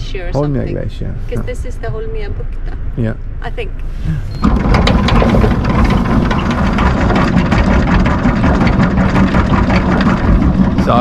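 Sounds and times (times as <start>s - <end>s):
windlass machine hum: 0.0s - 11.0s.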